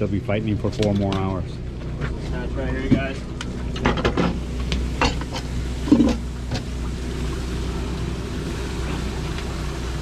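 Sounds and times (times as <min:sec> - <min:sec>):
boat machinery humming: 0:00.0 - 0:10.0.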